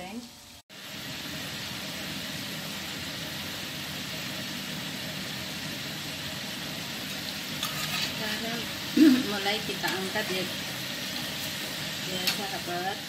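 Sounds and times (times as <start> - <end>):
potato strips deep-frying in oil: 0.0 - 13.0.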